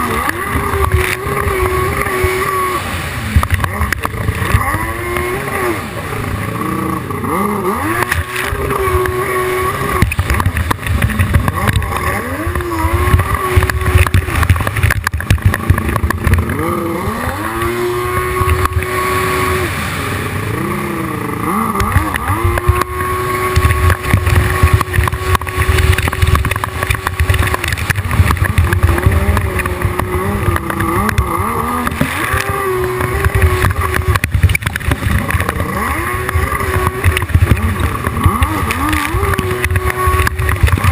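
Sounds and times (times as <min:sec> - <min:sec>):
jet ski engine revving: 0:00.0 - 0:40.9.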